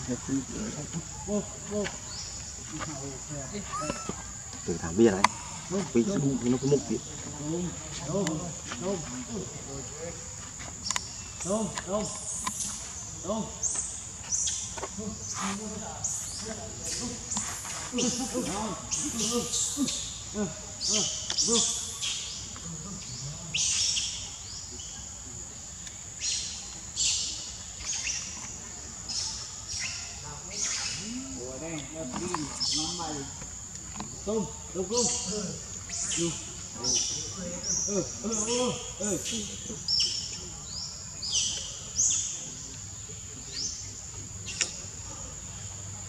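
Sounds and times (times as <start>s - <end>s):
high insect drone: 0.0s - 46.0s.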